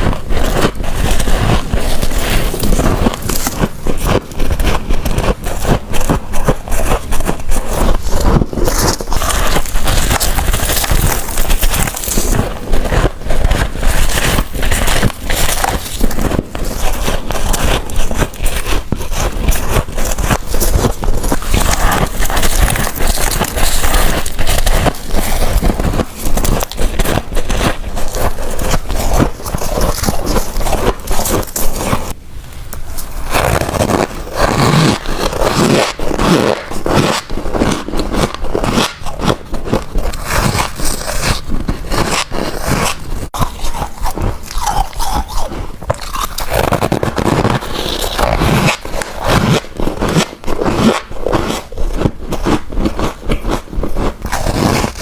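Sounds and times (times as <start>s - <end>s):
crunching of frost being chewed: 0.0s - 55.0s.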